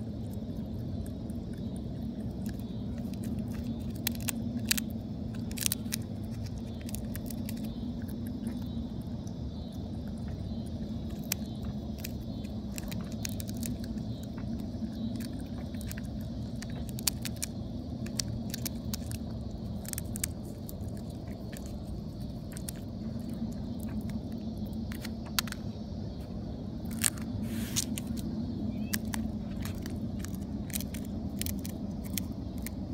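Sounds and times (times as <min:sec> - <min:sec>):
groundhog chewing peanuts: 0:00.0 - 0:32.9
steady low rumble: 0:00.0 - 0:32.9.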